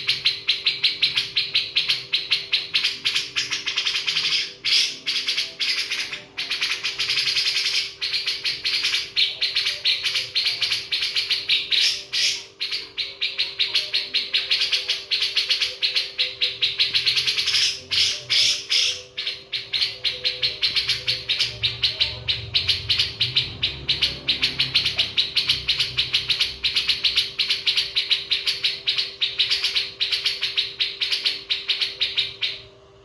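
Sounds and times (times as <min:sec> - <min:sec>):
birds chirping rapidly: 0:00.0 - 0:32.7.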